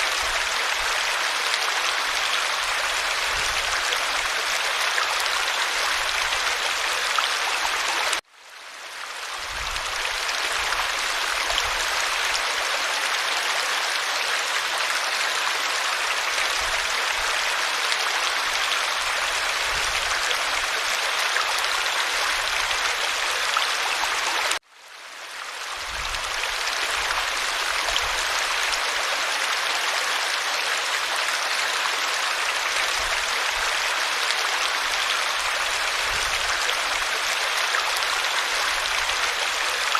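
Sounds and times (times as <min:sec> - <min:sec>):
creek babbling: 0:00.0 - 0:08.2, 0:08.9 - 0:39.9.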